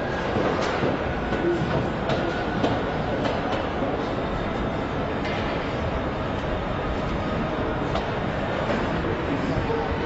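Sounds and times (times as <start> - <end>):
factory machinery running: 0.0 - 10.0.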